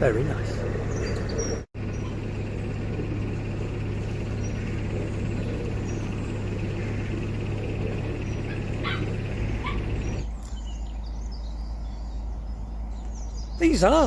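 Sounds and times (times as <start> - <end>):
bird calling in rising notes: 0.0 - 14.0
boat engine running: 0.0 - 14.0
faint birdsong: 0.0 - 14.0.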